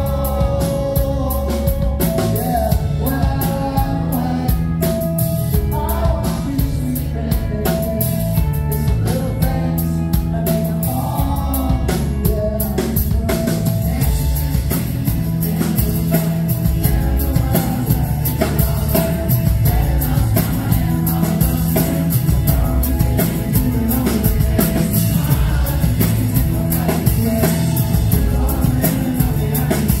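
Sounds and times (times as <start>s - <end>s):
man singing: 0.0s - 30.0s
rock band playing live: 0.0s - 30.0s.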